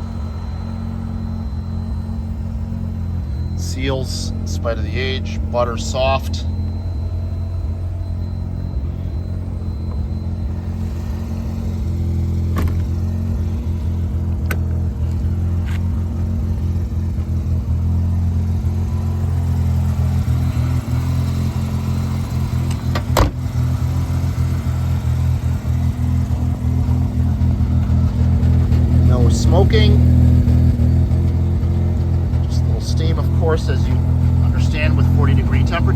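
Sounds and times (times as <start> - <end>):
rotary engine idling: 0.0 - 35.9.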